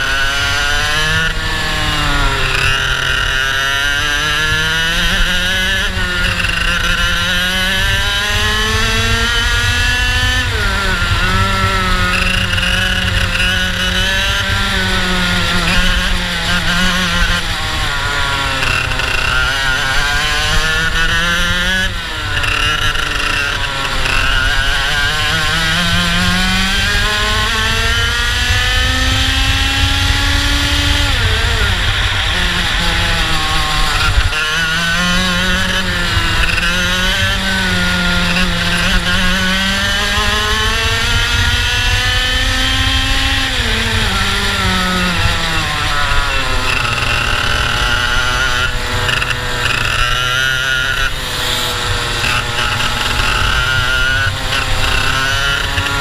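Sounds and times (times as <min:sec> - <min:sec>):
kart engine at full throttle: 0:00.0 - 0:56.0.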